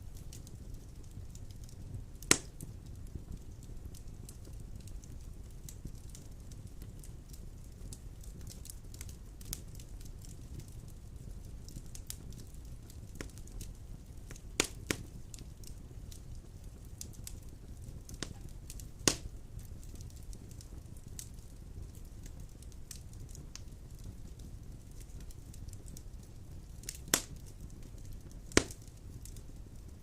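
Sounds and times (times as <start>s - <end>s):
fire crackles: 0.0s - 30.0s
logs burning in fireplace: 0.0s - 30.0s
wood fire popping: 0.0s - 30.0s.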